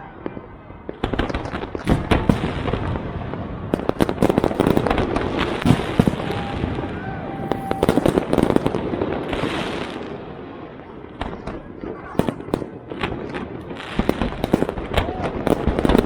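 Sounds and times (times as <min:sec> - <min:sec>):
fireworks cracks and pops: 0:00.2 - 0:06.5, 0:07.4 - 0:10.2, 0:11.1 - 0:16.0.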